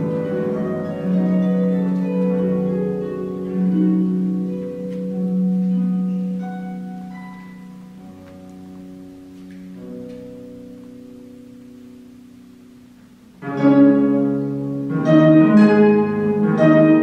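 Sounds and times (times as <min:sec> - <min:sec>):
harp plucked notes: 0:00.0 - 0:17.0.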